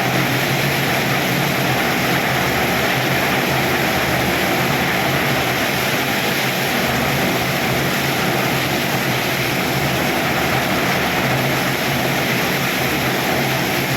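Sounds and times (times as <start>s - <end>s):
heavy rain pouring: 0.0s - 13.9s.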